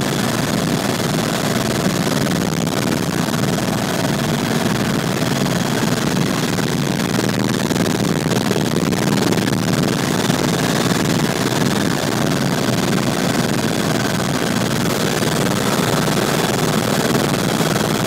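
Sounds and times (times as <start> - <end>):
faint steady whine: 0.0 - 18.0
helicopter rotor and engine drone: 0.0 - 18.0.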